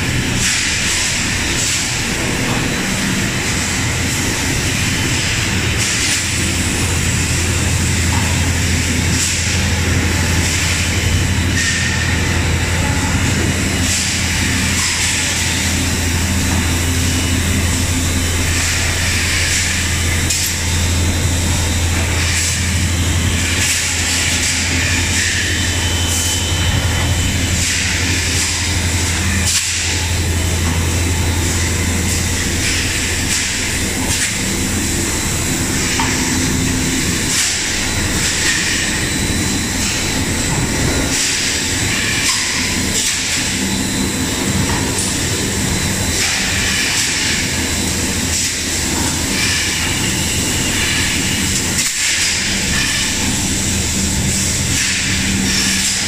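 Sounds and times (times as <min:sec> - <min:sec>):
machinery humming with hiss: 0:00.0 - 0:56.0.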